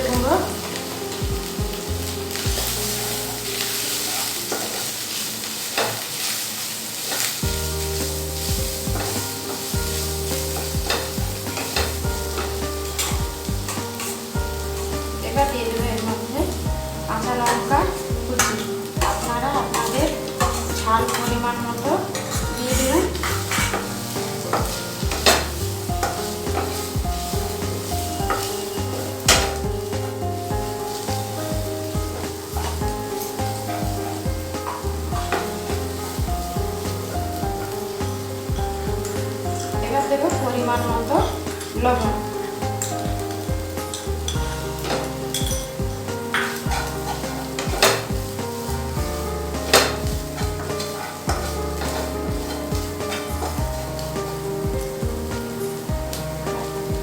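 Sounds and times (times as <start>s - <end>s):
spatula scraping pan: 0.0s - 6.3s, 7.0s - 54.7s
onion sizzling in hot oil: 0.0s - 57.0s.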